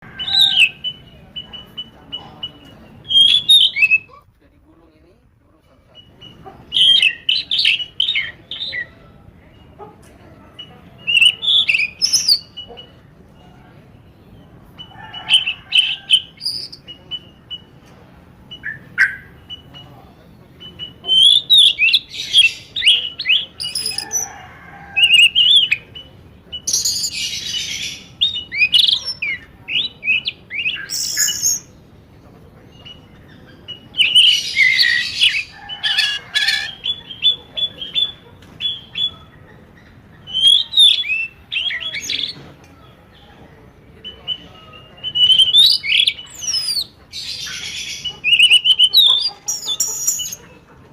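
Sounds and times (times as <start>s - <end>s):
birds chirping and squawking: 0.0s - 50.9s.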